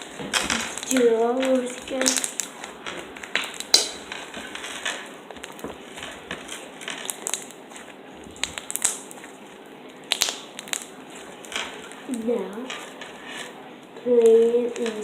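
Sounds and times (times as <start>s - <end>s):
slime squished in hands: 0.0s - 13.6s
slime pops and crackles: 0.0s - 15.0s.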